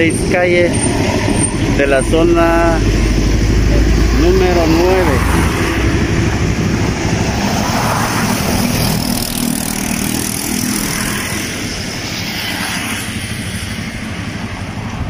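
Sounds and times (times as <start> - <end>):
city street traffic: 0.0 - 15.0
van passing close by: 0.0 - 15.0.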